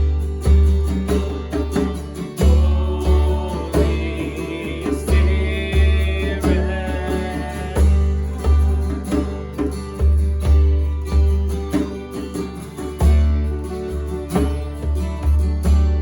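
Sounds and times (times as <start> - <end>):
guitar: 0.0 - 16.0
steady bass line: 0.0 - 16.0.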